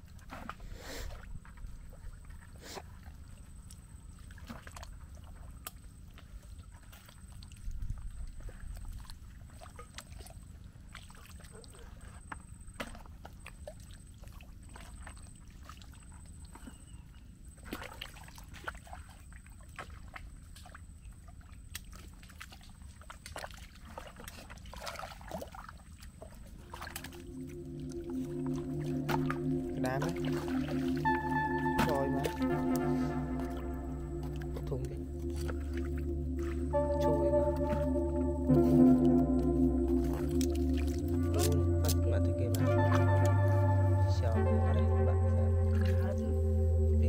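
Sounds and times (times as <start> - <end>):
wet squelches in mud: 0.0 - 44.7.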